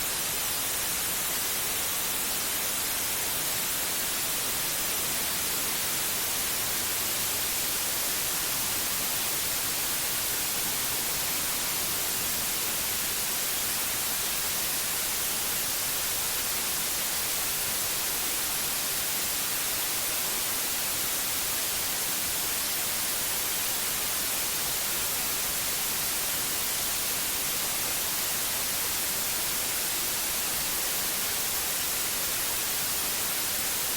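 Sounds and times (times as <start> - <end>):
white noise hiss: 0.0 - 33.9.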